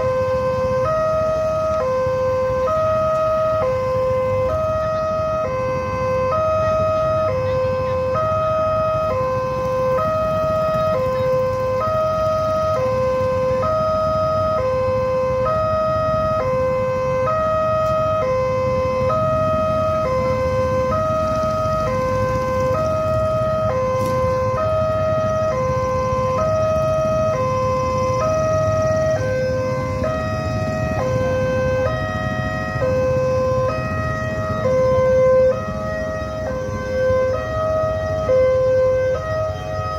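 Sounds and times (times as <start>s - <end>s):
motorcycles idling rumble: 0.0s - 39.9s
two-tone crossing alarm: 0.0s - 39.9s.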